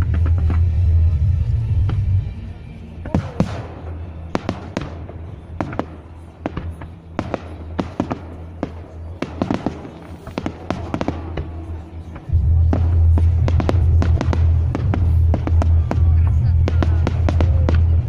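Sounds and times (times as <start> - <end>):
fireworks pops and cracks: 0.0 - 0.8, 3.1 - 18.0
low rumble: 0.0 - 9.2, 10.3 - 18.0.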